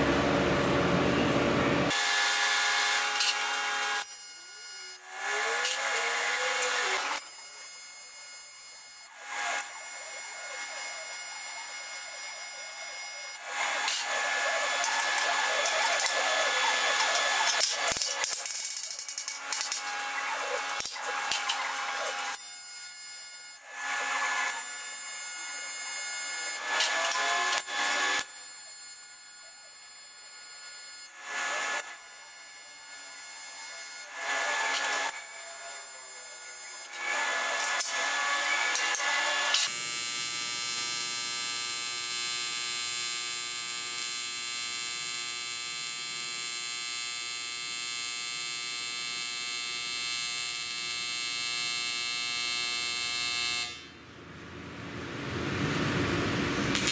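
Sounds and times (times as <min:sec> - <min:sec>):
welding arc buzzing: 0:00.1 - 0:54.0, 0:55.8 - 0:56.9.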